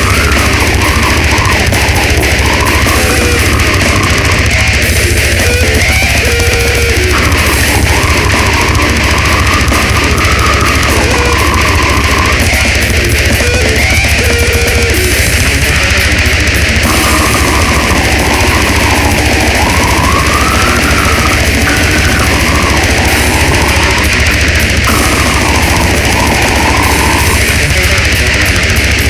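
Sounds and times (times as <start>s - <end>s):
distorted electric guitars: 0.0s - 29.0s
rapid drumming with cymbals: 0.0s - 29.0s.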